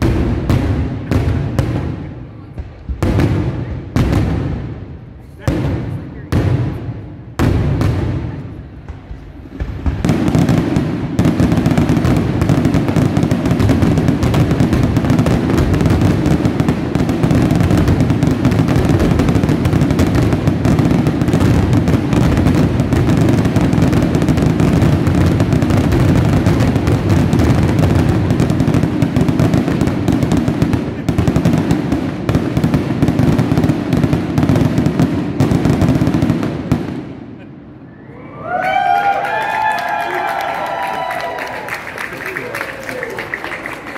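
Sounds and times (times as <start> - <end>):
fireworks booming and crackling: 0.0 - 37.9.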